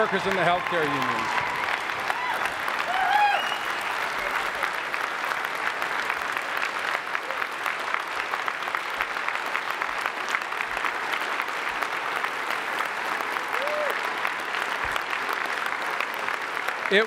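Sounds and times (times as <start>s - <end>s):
large audience applauding: 0.0s - 17.0s.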